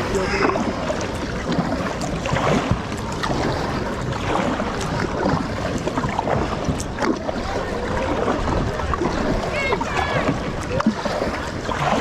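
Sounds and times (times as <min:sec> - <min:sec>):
water lapping and splashing: 0:00.0 - 0:12.0
wind buffeting microphone: 0:00.0 - 0:12.0.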